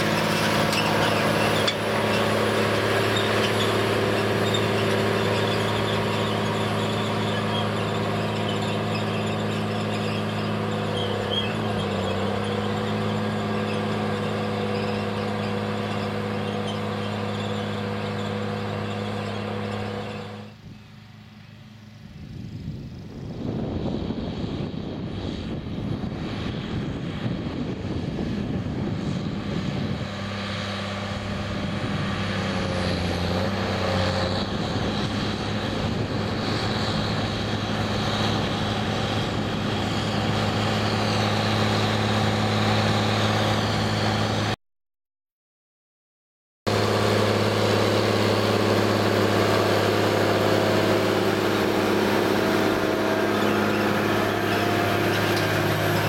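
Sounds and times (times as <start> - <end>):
tractor diesel engine drone: 0.0 - 44.6, 46.7 - 56.0.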